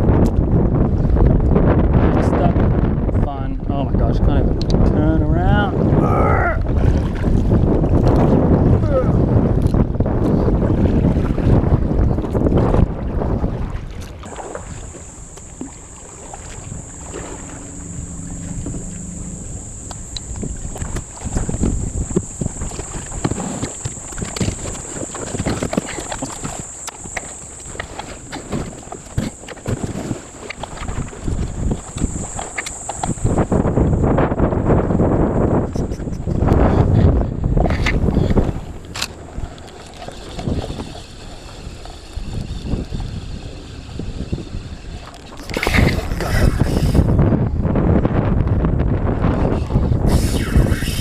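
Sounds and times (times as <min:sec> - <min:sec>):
wind buffeting microphone: 0:00.0 - 0:51.0
water splashing against kayak hull: 0:04.6 - 0:51.0.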